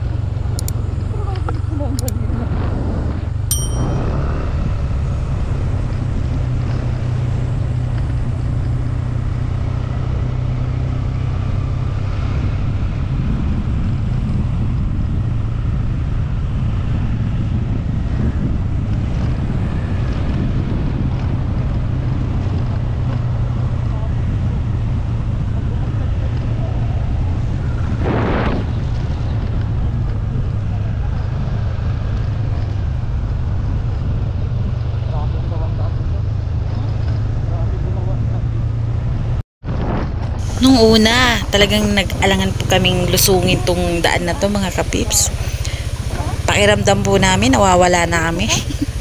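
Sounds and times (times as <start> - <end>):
motorcycle engine rumble: 0.0 - 49.0
wind buffeting microphone: 0.0 - 49.0.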